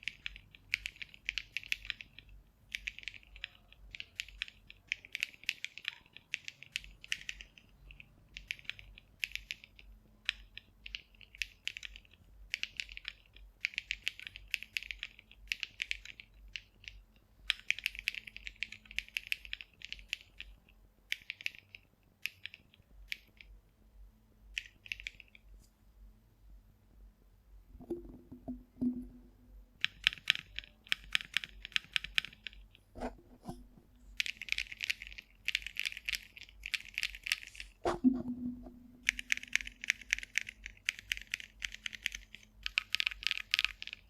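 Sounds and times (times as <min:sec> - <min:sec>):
mechanical keyboard typing: 0:00.0 - 0:23.4, 0:24.6 - 0:25.4, 0:29.8 - 0:32.8, 0:34.2 - 0:44.0.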